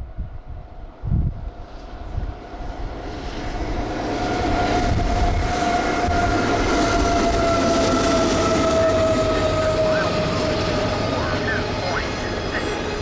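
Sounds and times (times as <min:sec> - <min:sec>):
train rumble passing: 0:00.0 - 0:13.0.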